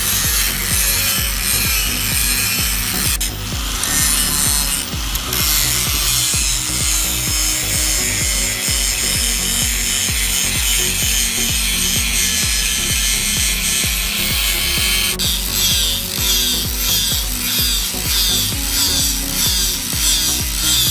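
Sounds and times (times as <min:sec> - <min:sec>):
angle grinder grinding metal: 0:00.0 - 0:20.9.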